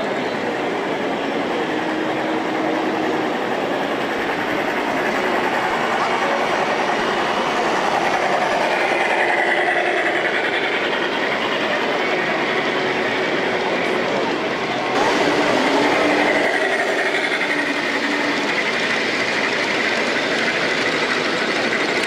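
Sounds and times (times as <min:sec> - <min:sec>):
model train wheels rolling: 0:00.0 - 0:22.0
murmur of crowd in hall: 0:00.0 - 0:22.0.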